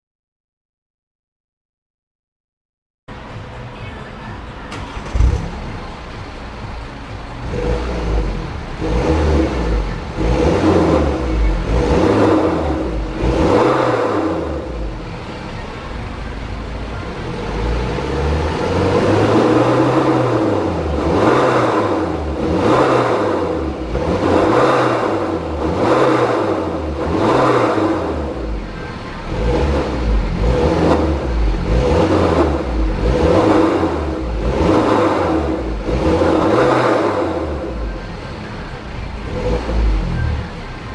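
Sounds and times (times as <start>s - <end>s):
diesel engine revving: 4.7s - 40.9s.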